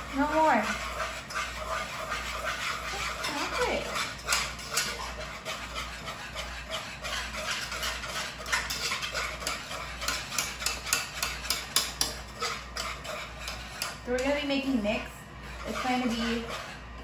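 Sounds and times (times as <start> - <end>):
metal utensil scraping saucepan: 0.0 - 17.0.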